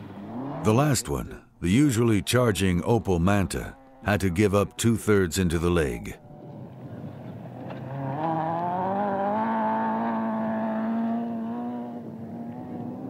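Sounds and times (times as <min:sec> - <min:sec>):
car engine revving: 0:00.0 - 0:05.2, 0:06.2 - 0:13.0.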